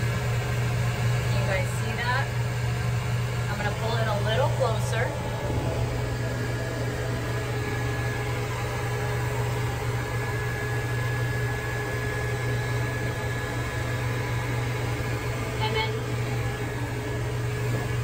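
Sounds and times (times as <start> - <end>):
blow dryer motor hum: 0.0 - 18.0.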